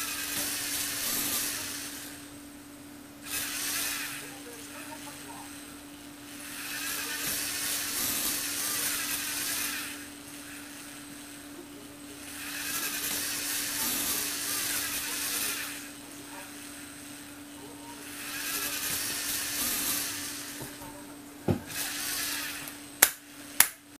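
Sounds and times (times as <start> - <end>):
electric motor whirring: 0.0 - 23.8
faint steady hum: 0.0 - 23.9.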